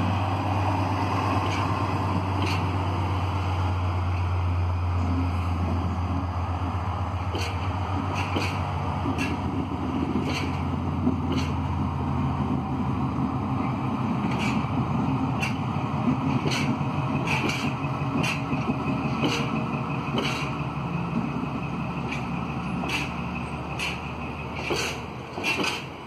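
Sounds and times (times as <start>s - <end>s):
wheels clicking over rail joints: 0.0s - 3.3s, 3.9s - 26.0s
locomotive engine drone: 0.0s - 26.0s.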